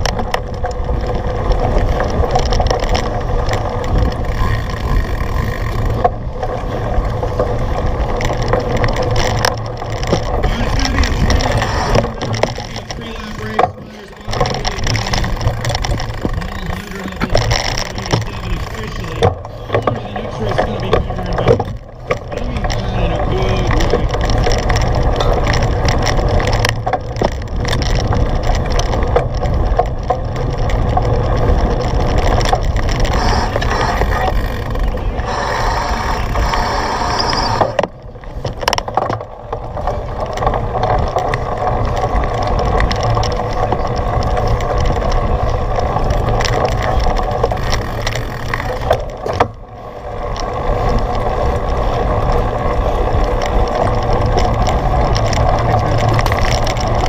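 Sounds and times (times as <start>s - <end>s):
bike rattling and clicking: 0.0s - 57.0s
wind buffeting microphone: 0.0s - 57.0s.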